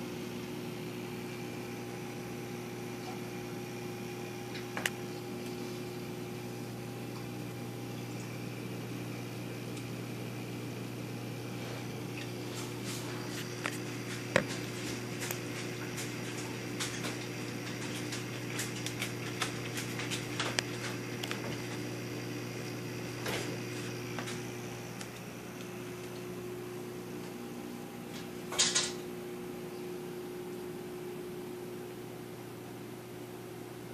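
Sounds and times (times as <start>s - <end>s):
aquarium pumps humming: 0.0s - 33.9s.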